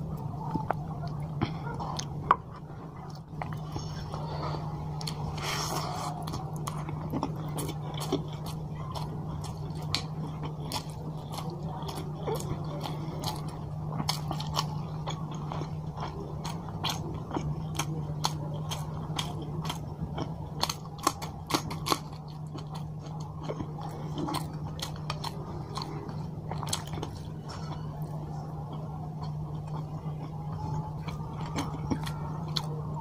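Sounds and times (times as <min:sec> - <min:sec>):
steady low hum: 0:00.0 - 0:33.0
wet chewing: 0:00.0 - 0:33.0.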